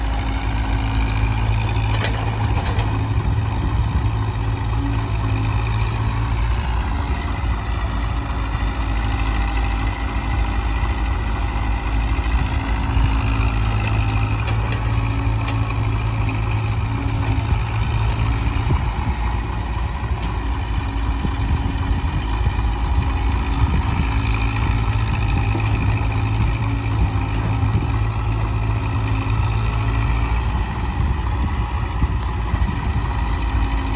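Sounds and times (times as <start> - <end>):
diesel engines idling: 0.0 - 33.9.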